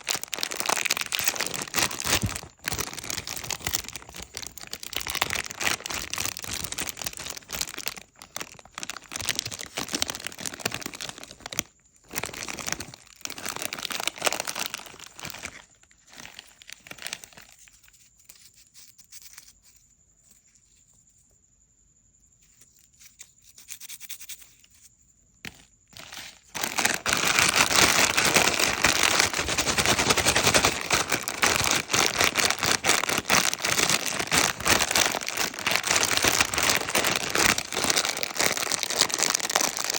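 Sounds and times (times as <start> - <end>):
plastic packaging crinkling: 0.0 - 17.9, 25.5 - 39.9.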